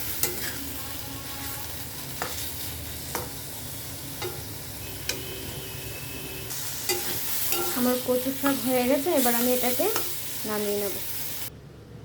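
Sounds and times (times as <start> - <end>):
leaf mash sizzling in a pan: 0.0 - 11.5.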